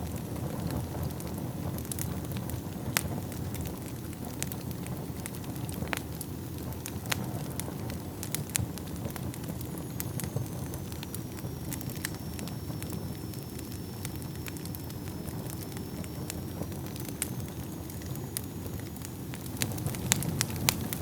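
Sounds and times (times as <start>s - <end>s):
fire rumbling and crackling: 0.0s - 21.0s.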